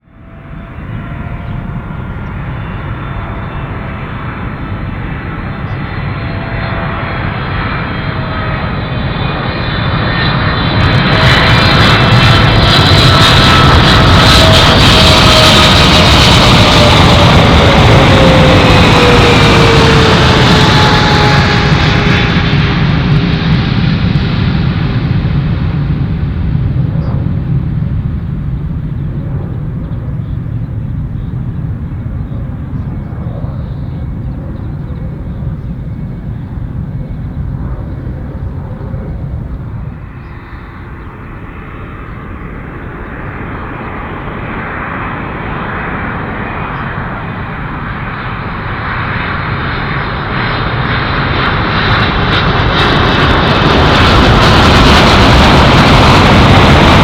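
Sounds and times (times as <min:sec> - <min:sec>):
distant airliner jet engines: 0:00.0 - 0:57.0
jet engines passing close: 0:00.0 - 0:57.0.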